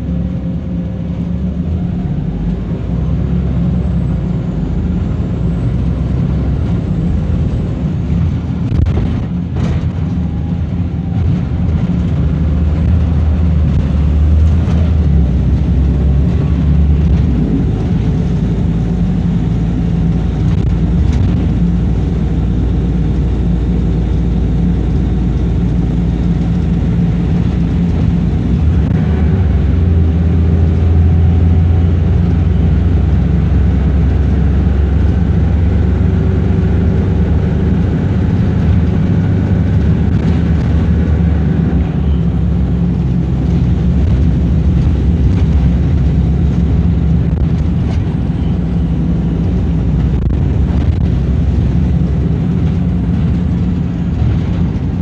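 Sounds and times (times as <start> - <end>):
bus diesel engine drone: 0.0 - 55.0
road noise: 0.0 - 55.0.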